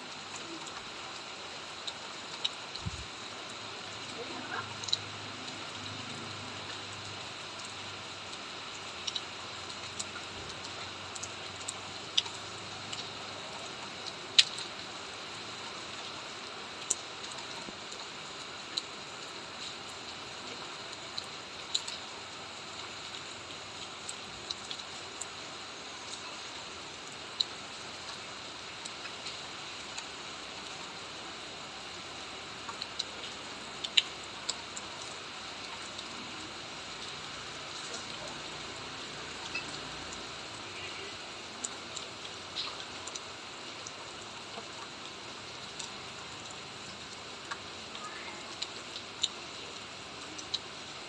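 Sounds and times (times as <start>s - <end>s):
light rain hiss: 0.0s - 51.0s
raindrops dripping on surface: 0.0s - 51.0s.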